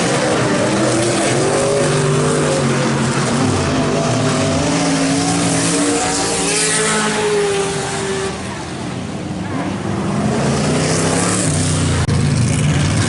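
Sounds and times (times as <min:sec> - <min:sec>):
race truck engines revving: 0:00.0 - 0:13.0.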